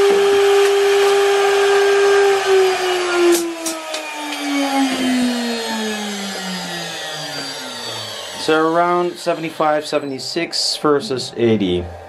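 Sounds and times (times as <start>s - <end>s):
router spindle motor whining: 0.0s - 10.4s.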